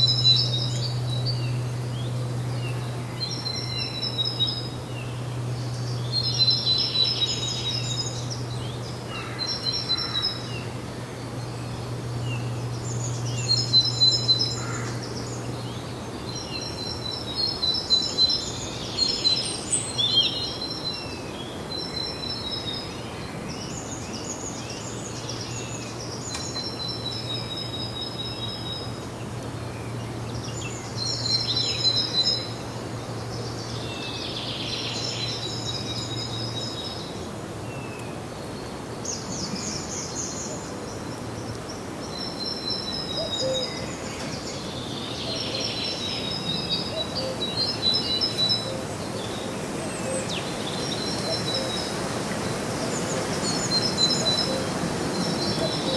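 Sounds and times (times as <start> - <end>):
outdoor background noise: 0.0 - 55.9
songbirds chirping: 0.0 - 55.9.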